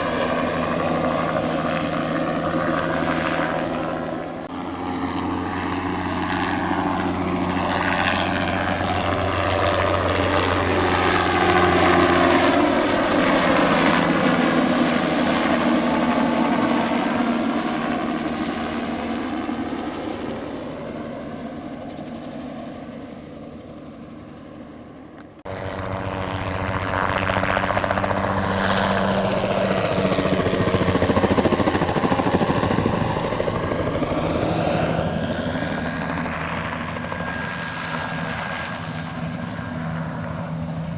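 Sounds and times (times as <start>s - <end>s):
helicopter passing low: 0.0s - 40.9s.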